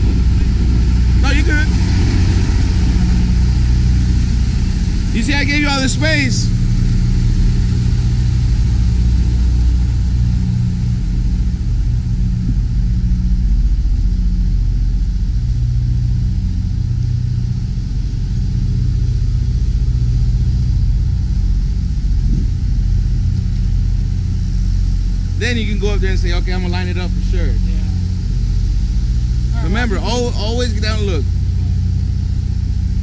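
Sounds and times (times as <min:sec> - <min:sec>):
diesel truck engine rumbling: 0:00.0 - 0:33.0.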